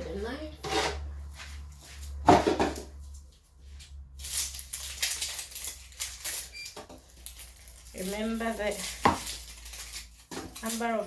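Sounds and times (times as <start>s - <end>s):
onion skins rustling: 1.0s - 11.0s.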